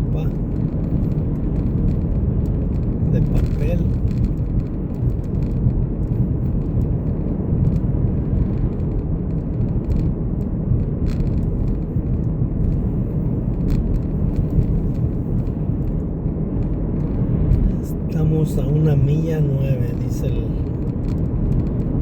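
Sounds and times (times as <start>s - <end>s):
car cabin road noise: 0.0s - 22.0s.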